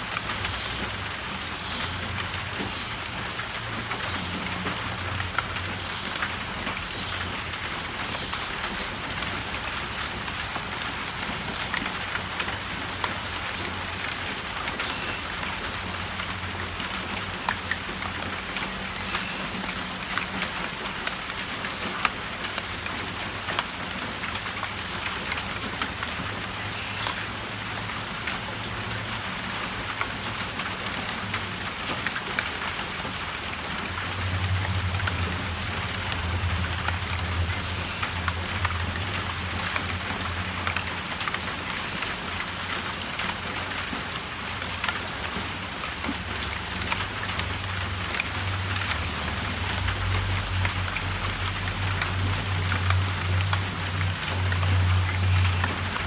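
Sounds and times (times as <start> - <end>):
rain on a tin roof: 0.0 - 56.0
raindrops tapping on balloons: 0.0 - 56.0.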